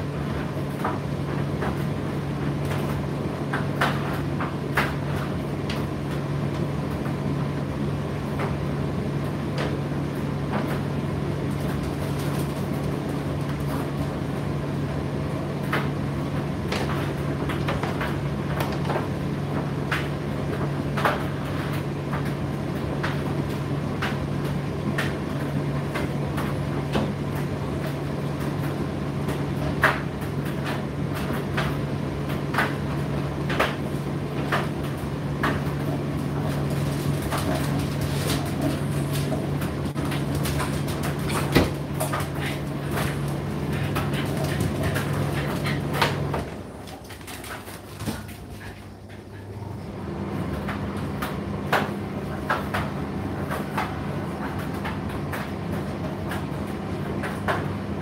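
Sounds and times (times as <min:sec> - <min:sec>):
tumble dryer hum: 0:00.0 - 0:58.0.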